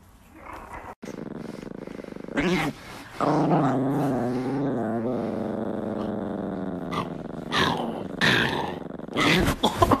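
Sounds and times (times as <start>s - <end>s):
small dog growling: 0.3s - 9.6s.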